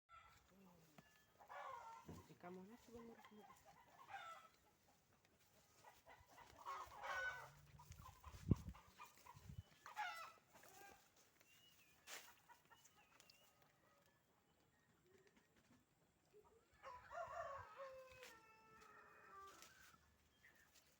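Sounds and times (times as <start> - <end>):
chicken clucking: 0.1 - 20.6.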